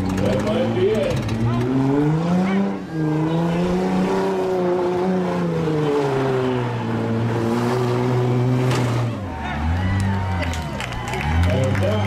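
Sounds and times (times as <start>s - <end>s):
van engine revving: 0.0s - 12.0s.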